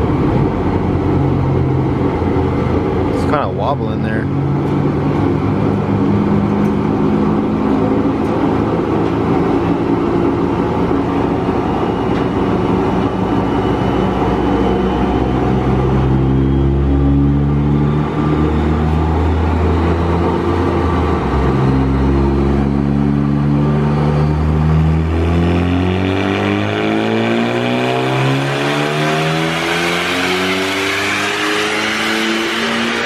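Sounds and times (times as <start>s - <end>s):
car engine revving on dyno: 0.0s - 33.0s.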